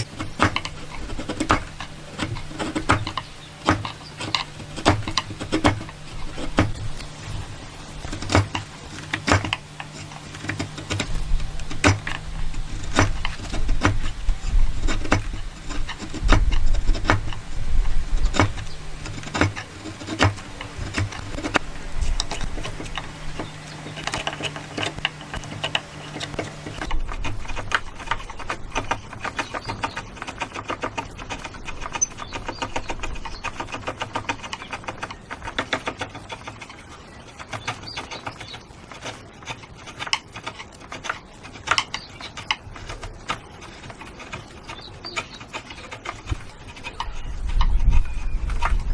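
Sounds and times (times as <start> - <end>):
low machine hum: 0.0 - 48.9
rapid tapping: 0.0 - 48.9.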